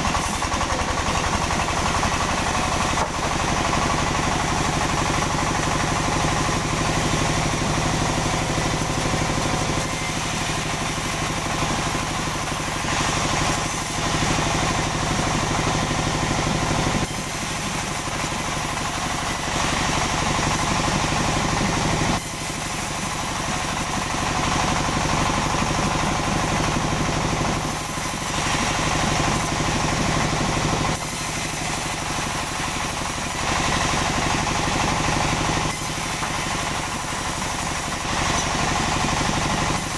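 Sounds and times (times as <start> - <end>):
engine-driven sawmill running: 0.0 - 39.9.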